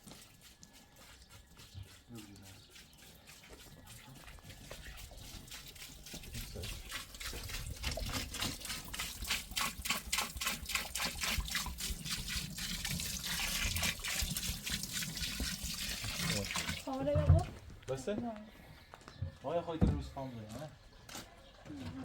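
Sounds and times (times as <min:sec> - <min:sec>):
water splashing and trickling: 0:00.0 - 0:18.1.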